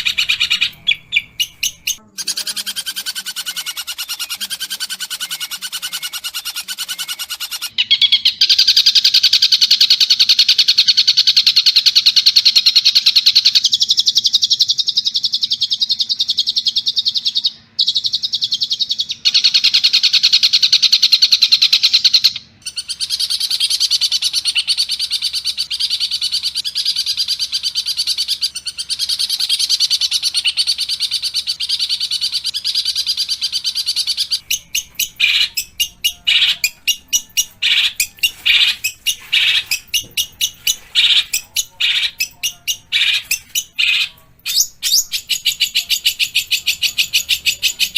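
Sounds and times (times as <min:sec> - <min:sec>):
bird harsh rapid chatter: 0:00.0 - 0:13.8, 0:19.1 - 0:47.9.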